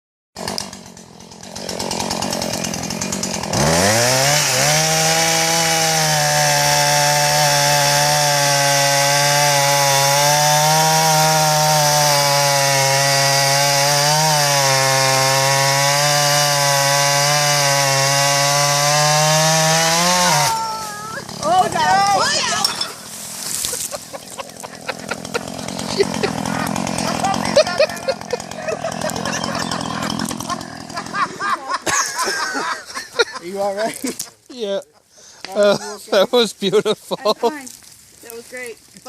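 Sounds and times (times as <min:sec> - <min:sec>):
chainsaw cutting tree trunk: 0:00.4 - 0:33.0.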